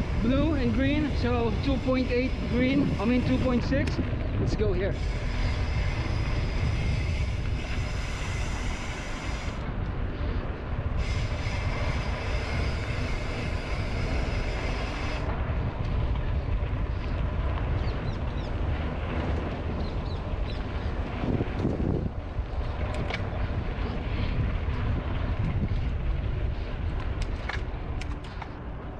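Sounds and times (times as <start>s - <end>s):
bicycle freehub ratcheting buzz: 0.0s - 28.6s
tyre and trail noise: 0.0s - 28.9s
wind rumble on microphone: 0.0s - 28.9s.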